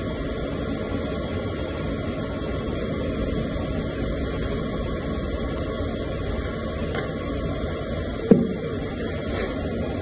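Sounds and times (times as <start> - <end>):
printer humming: 0.0 - 10.0.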